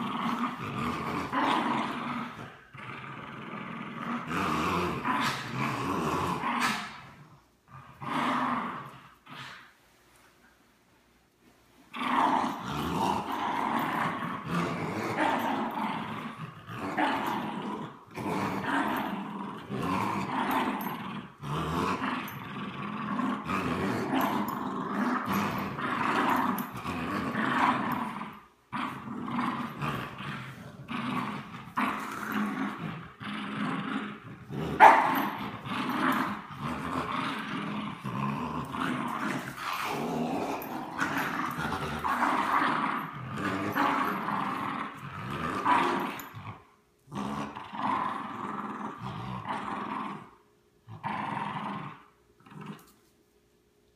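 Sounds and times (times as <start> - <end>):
dogs growling in play: 0.0 - 10.5, 11.7 - 53.1.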